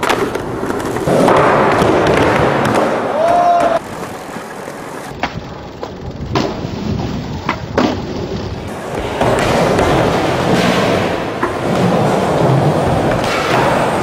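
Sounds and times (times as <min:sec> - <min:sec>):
skateboard clacks: 0:00.0 - 0:14.0
skateboard rolling: 0:00.0 - 0:14.0.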